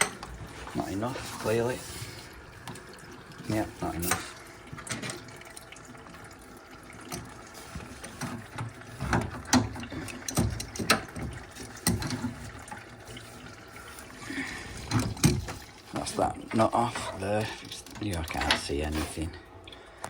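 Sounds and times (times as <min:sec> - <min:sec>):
water running and dripping: 0:00.0 - 0:20.0.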